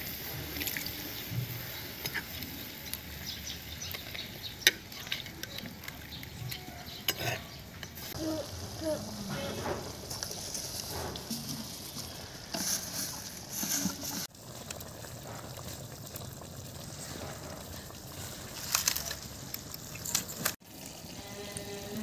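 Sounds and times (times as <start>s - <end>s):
stew bubbling and sizzling: 0.0s - 22.0s
wood fire crackling: 0.0s - 22.0s.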